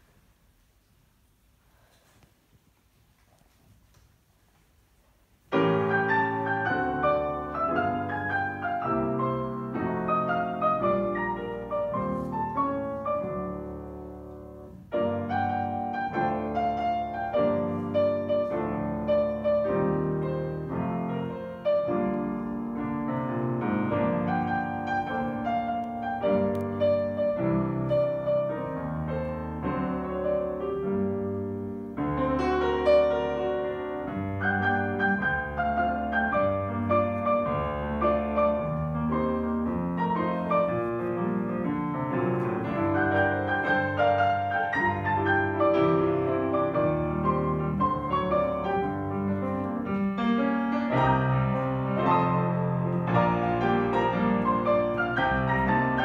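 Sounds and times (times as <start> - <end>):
grand piano duet: 0.0 - 56.0.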